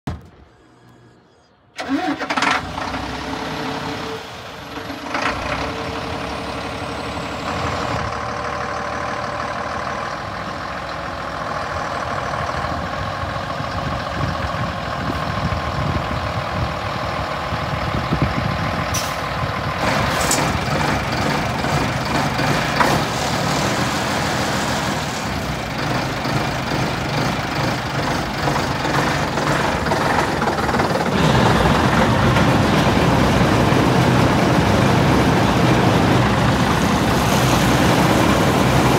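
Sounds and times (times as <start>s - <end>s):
diesel truck engine idling: 0.1s - 38.9s.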